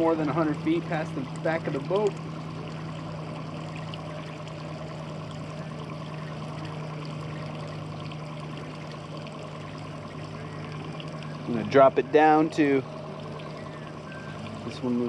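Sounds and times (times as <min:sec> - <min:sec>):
outboard motor humming: 0:00.0 - 0:15.0
water along boat hull: 0:00.0 - 0:15.0.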